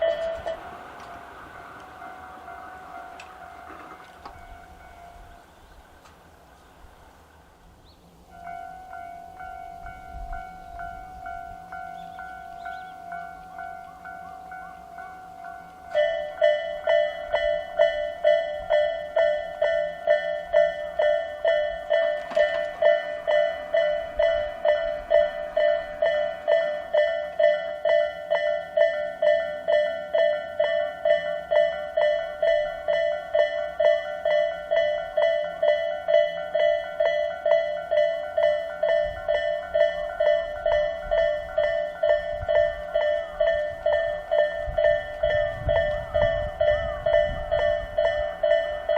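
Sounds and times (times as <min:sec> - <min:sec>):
low rumble of approaching train: 0:00.0 - 0:48.9.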